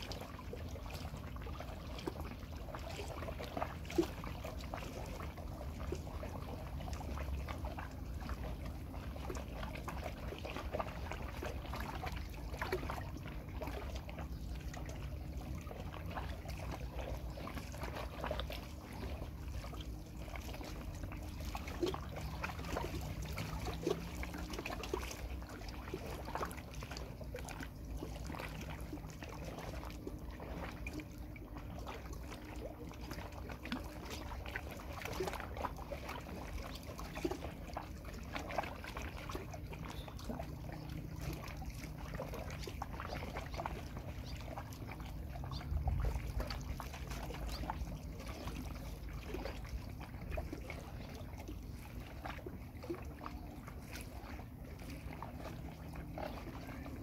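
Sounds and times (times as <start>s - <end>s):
low steady rumble: 0.0s - 57.0s
small splashes: 0.0s - 57.0s
water lapping against a pier: 0.0s - 57.0s.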